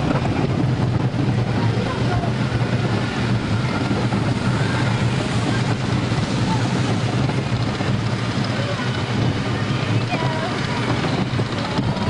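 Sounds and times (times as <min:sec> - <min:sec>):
roller coaster rumbling on track: 0:00.0 - 0:12.0.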